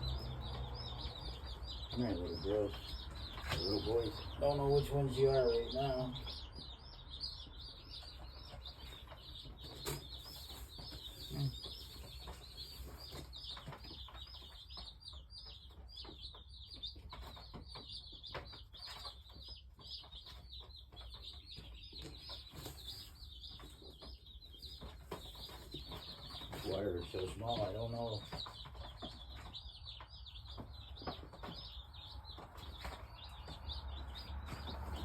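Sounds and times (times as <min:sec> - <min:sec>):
chicks peeping: 0:00.0 - 0:35.0.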